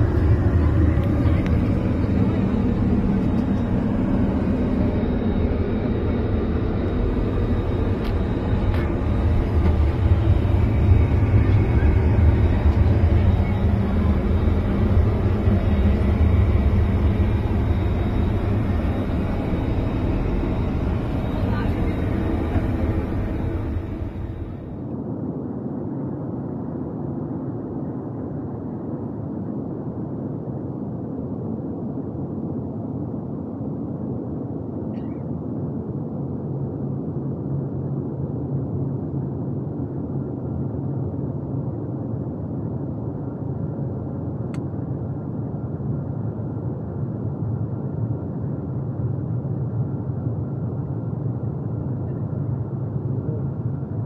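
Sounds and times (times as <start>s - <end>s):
airliner cabin engine rumble: 0.0s - 25.7s, 30.8s - 54.0s.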